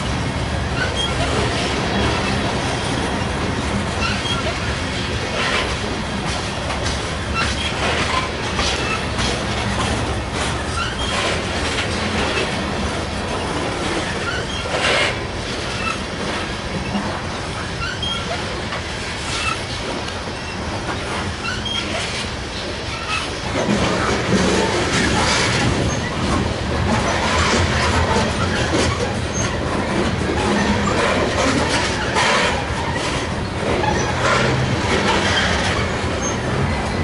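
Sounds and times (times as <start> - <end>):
rumble of steel wheels on rail: 0.0 - 37.0
wheels clicking over rail joints: 0.7 - 37.0.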